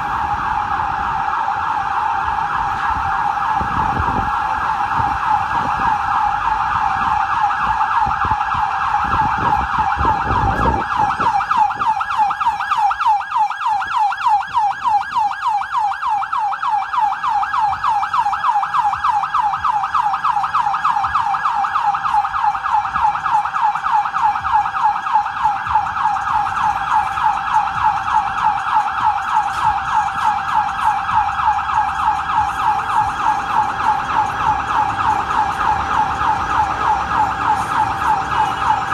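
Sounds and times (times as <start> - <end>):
ambulance siren yelping: 0.0 - 38.9.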